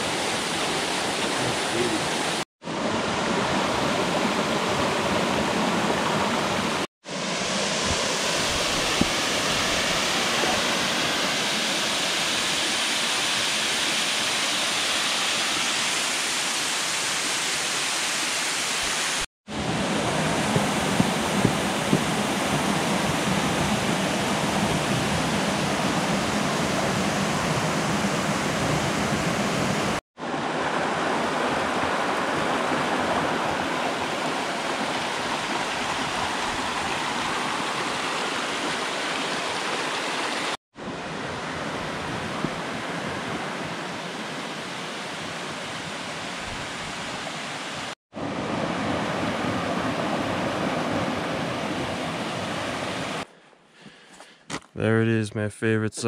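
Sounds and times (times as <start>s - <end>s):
rushing stream water: 0.0s - 53.3s.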